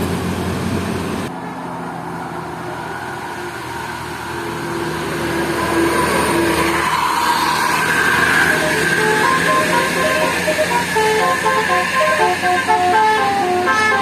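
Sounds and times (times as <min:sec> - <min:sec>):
bus engine passing: 0:00.0 - 0:14.0.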